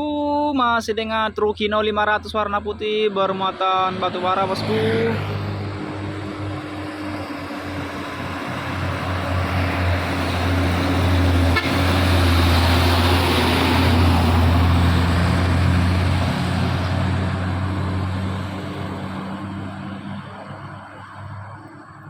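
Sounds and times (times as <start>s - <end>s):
diesel truck labouring uphill: 0.8s - 22.0s.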